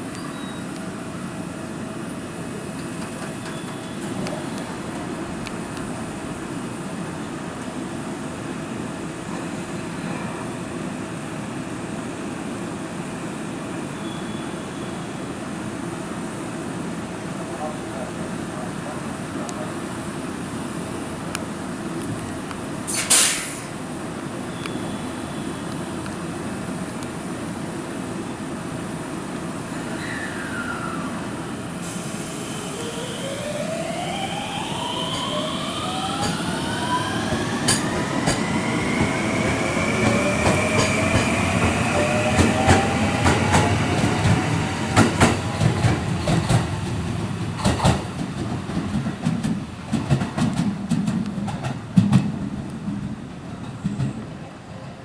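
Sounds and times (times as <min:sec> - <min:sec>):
electric train inverter whine: 0:00.0 - 0:49.1.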